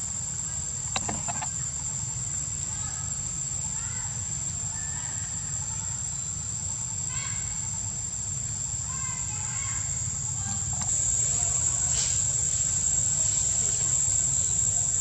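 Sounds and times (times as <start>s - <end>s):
insects shrilling: 0.0s - 15.0s.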